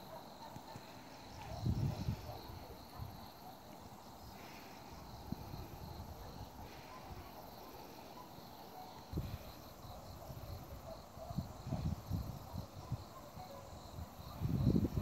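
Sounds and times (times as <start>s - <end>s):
faint crickets chirping: 0.0s - 15.0s.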